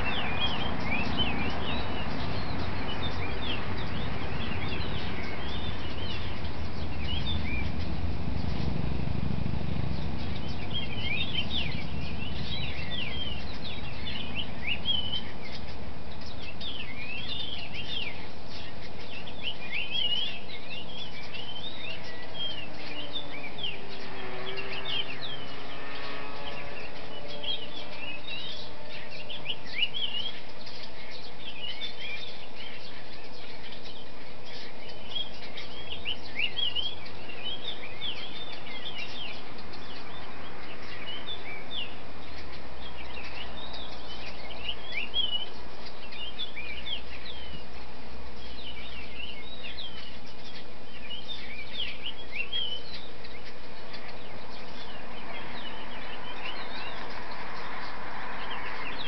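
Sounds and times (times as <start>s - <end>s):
background hiss: 0.0s - 59.0s
songbirds chirping: 0.0s - 59.0s.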